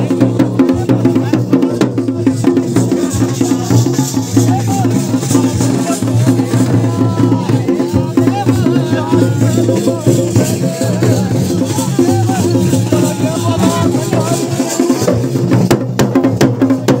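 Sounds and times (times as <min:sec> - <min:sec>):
drums playing a dance rhythm: 0:00.0 - 0:17.0
sharp drum strokes: 0:00.0 - 0:17.0.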